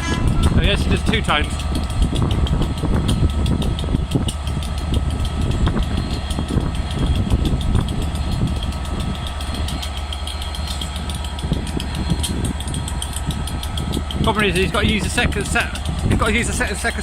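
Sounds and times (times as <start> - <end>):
diesel locomotive idling: 0.0 - 17.0
fine even ticking: 0.0 - 17.0.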